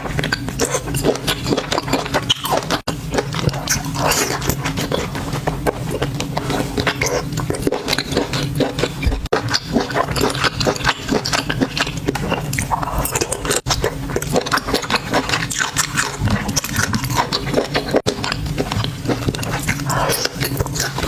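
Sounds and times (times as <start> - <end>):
close chewing of seafood: 0.0 - 21.0.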